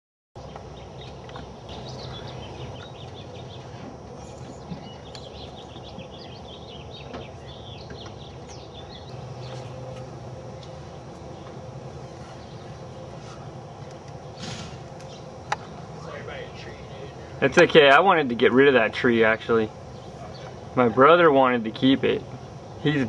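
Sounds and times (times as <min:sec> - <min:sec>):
bee swarm humming: 0:00.4 - 0:23.0
birds chirping: 0:00.4 - 0:23.0.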